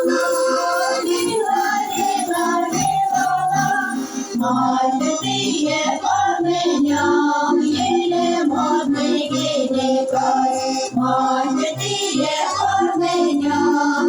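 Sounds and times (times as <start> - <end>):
folk group singing: 0.0 - 14.0
instrumental accompaniment: 0.0 - 14.0.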